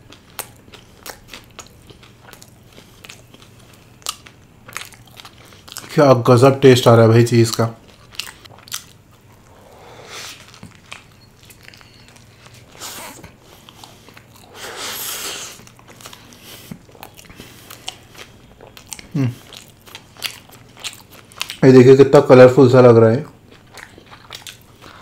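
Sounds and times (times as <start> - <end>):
person chewing crunchy food: 0.0 - 6.0, 7.4 - 21.6, 23.3 - 25.0.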